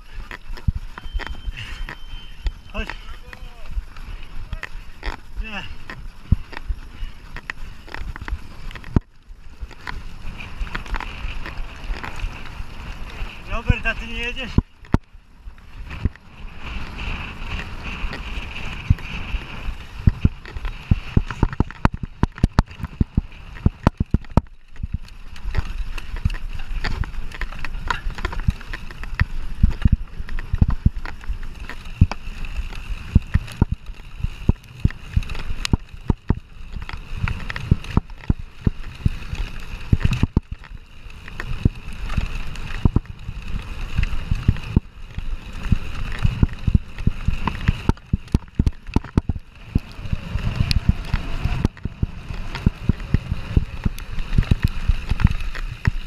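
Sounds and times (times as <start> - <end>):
bike rattling over bumps: 0.0 - 56.0
bike tyres rumbling on trail: 0.0 - 56.0.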